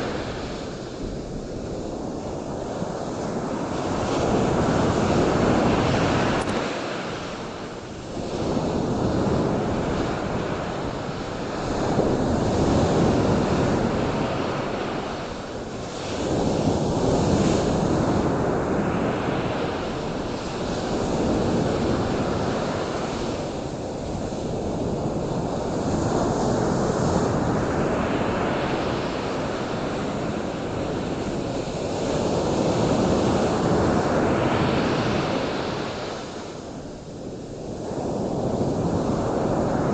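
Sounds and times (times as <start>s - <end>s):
surf washing in: 0.0s - 39.9s.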